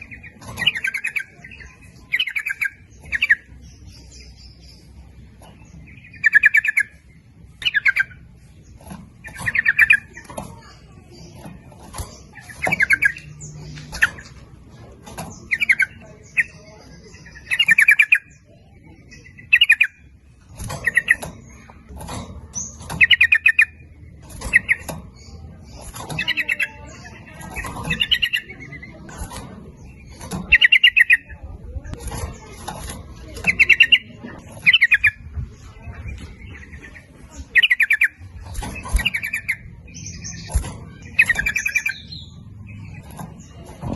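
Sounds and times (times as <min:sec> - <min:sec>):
bulbuls chattering: 0:00.0 - 0:43.9.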